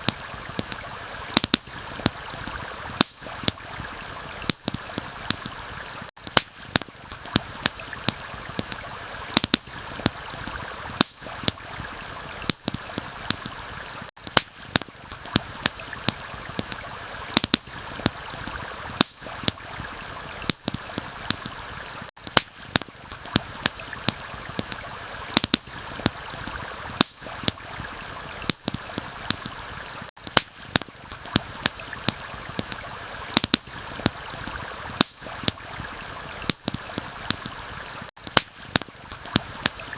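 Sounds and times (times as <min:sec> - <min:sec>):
campfire crackling and popping: 0:00.0 - 0:39.9
stream flowing: 0:00.0 - 0:39.9.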